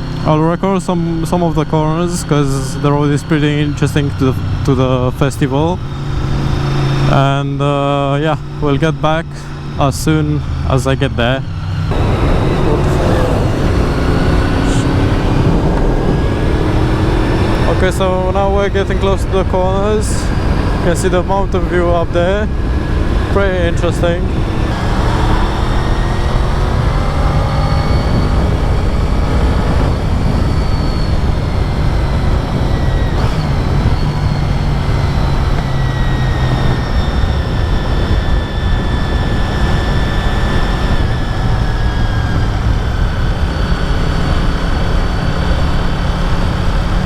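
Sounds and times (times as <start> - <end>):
motorcycle engine running: 0.0 - 47.0
wind noise: 1.0 - 47.0.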